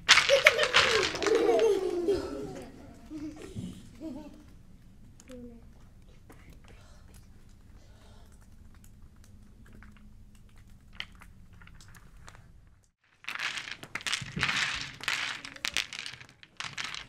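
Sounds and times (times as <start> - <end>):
pebbles clattering on floor: 0.0 - 3.7, 6.3 - 17.0.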